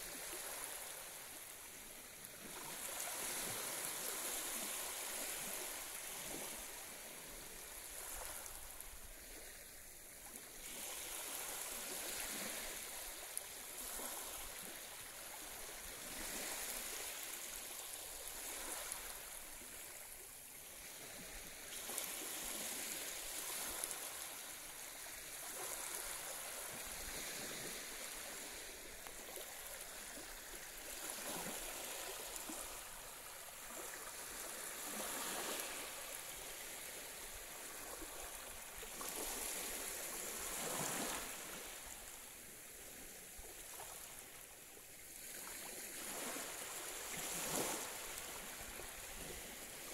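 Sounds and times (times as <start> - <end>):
small waves lapping on beach: 0.0 - 49.9.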